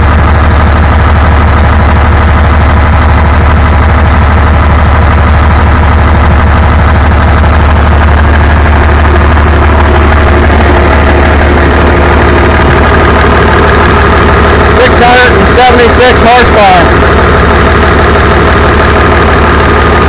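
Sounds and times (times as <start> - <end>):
diesel generator engine running: 0.0 - 20.0.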